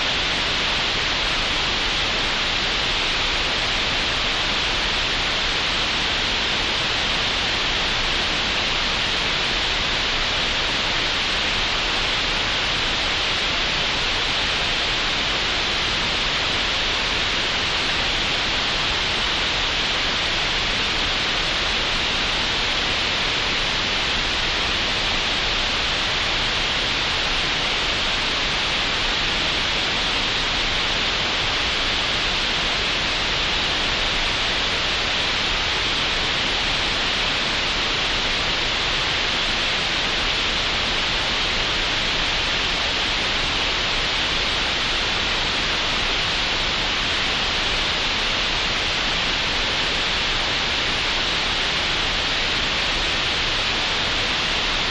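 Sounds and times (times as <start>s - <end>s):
steady even hiss: 0.0s - 54.9s.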